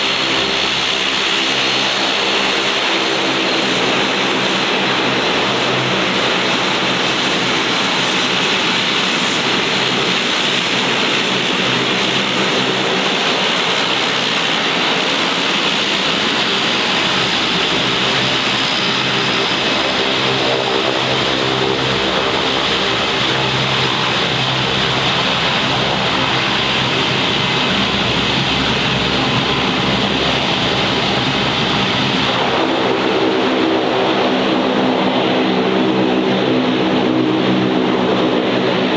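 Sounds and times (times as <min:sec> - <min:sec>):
turboprop engines running: 0:00.0 - 0:38.9.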